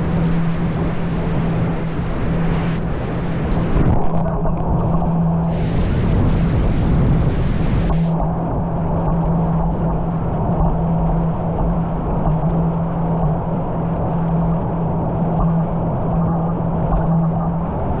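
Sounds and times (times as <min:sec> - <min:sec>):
boat engine running: 0:00.0 - 0:18.0
rushing water noise: 0:00.0 - 0:18.0.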